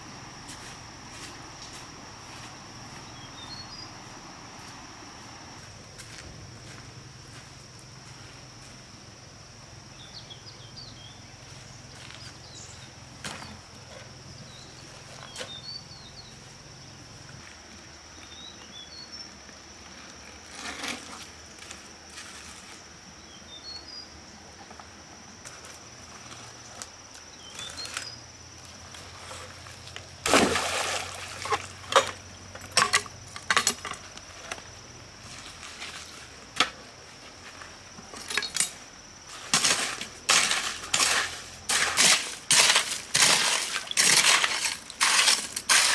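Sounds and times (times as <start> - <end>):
high insect drone: 0.0 - 45.9.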